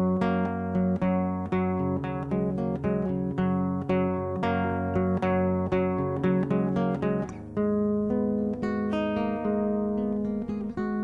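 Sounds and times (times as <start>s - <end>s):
acoustic guitar plucking: 0.0s - 11.0s.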